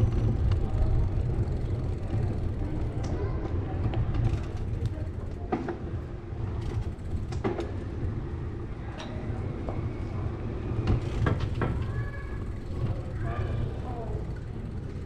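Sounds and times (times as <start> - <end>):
bike clicks and rattling knocks: 0.0 - 8.2, 10.7 - 15.0
wind and rolling tyres rumble: 0.0 - 15.0.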